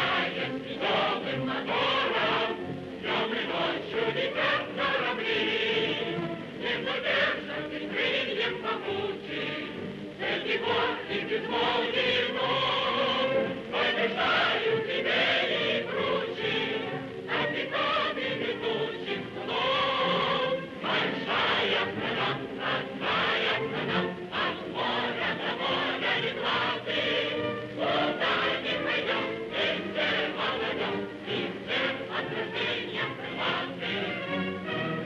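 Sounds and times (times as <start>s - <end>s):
choir singing long held notes: 0.0s - 35.0s.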